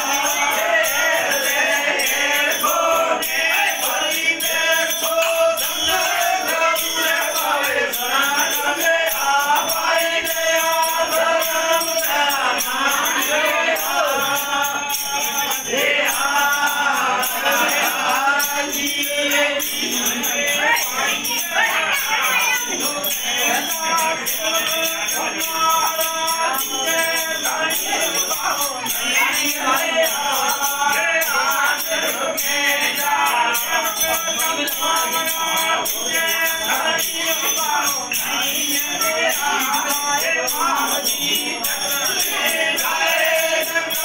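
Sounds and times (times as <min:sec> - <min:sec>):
jingling percussion: 0:00.0 - 0:44.0
voices singing devotional song: 0:00.0 - 0:44.0.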